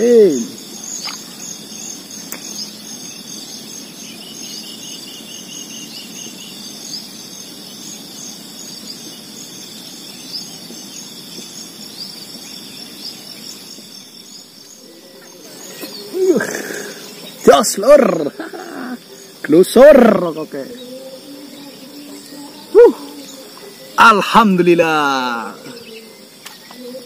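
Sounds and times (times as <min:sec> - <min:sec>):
insects shrilling: 0:00.0 - 0:27.0.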